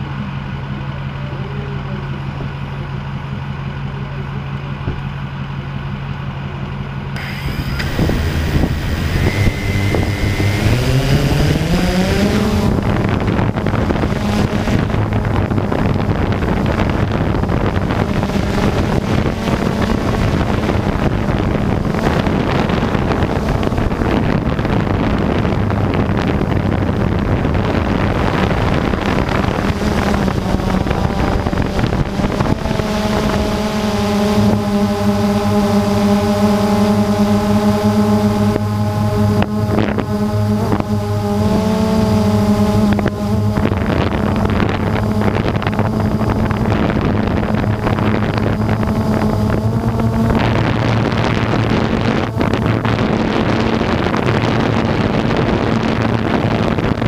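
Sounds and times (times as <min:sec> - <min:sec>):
steady low hum: 0:00.0 - 0:57.0
drone propellers buzzing: 0:07.1 - 0:57.0.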